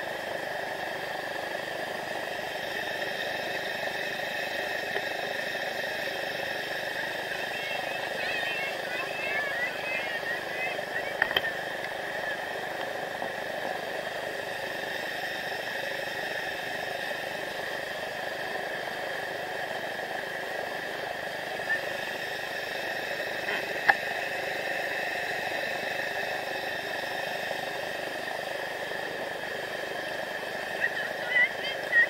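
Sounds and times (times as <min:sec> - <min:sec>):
river rapids rushing: 0:00.0 - 0:32.0.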